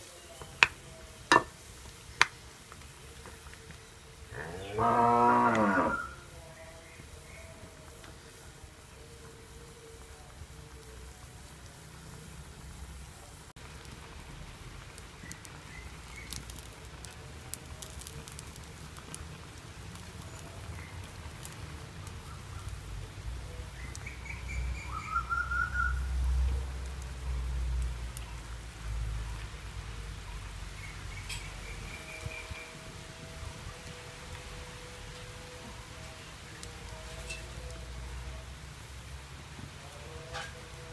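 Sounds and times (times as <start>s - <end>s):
wood fire crackling and popping: 0.0s - 4.3s, 5.4s - 40.9s
steady hiss: 0.0s - 40.9s.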